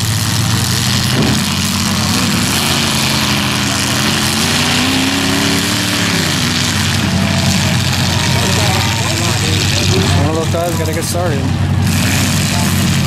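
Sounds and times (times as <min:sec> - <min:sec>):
car engine revving: 0:00.0 - 0:13.0
car engines running: 0:00.0 - 0:13.0.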